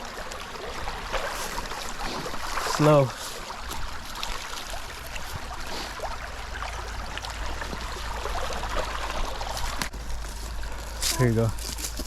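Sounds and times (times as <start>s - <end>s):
footsteps splashing in water: 0.3s - 12.0s.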